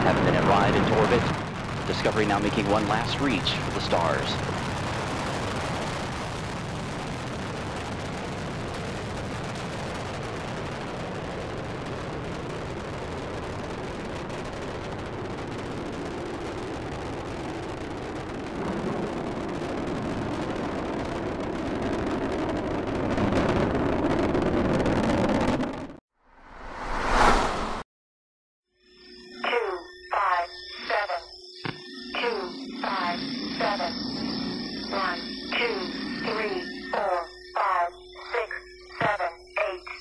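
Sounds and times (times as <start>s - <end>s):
rocket engines rumbling: 0.0s - 22.9s, 26.3s - 27.8s, 32.0s - 40.0s.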